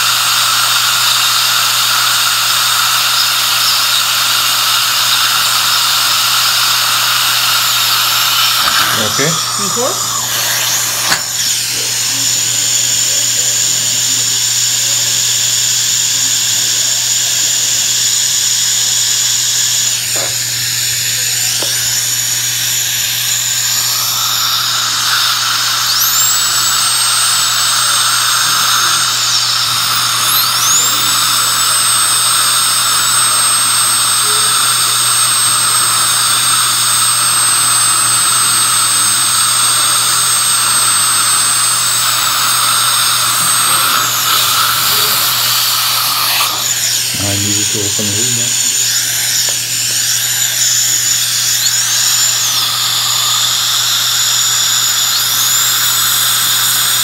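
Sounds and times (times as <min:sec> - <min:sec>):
dental drill whining: 0:00.0 - 0:57.0
dental suction hissing: 0:00.0 - 0:57.0.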